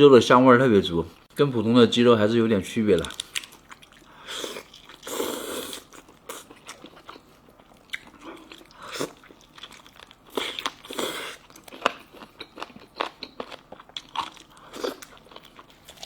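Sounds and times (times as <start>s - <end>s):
person chewing close up: 2.9s - 16.0s.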